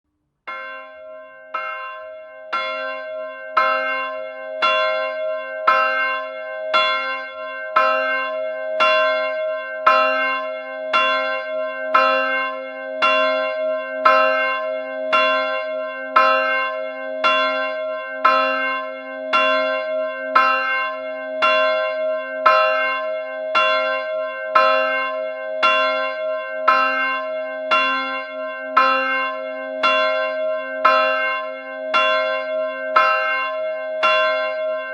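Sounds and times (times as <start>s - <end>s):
church bell tolling: 0.2s - 34.9s.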